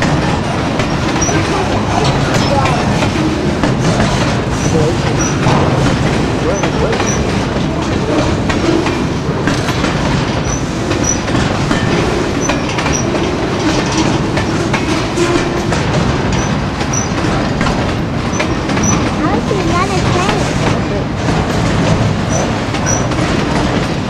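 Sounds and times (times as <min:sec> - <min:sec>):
freight train rolling past: 0:00.0 - 0:24.0
steel wheels clicking over rail joints: 0:00.0 - 0:24.0.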